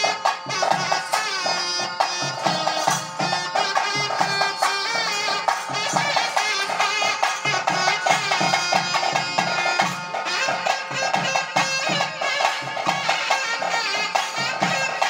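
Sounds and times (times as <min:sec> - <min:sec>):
quick drum beat: 0:00.0 - 0:15.0
reed pipe melody: 0:00.0 - 0:15.0.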